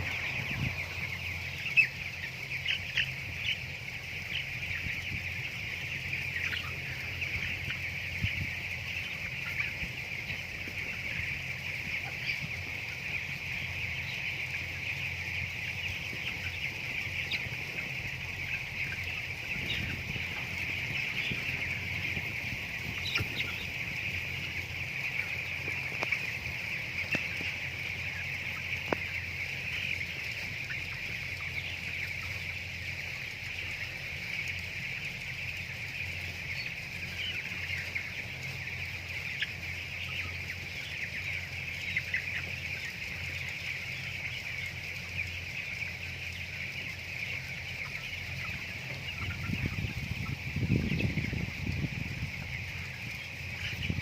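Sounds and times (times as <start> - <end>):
chickens chirping and clucking: 0.0 - 54.0.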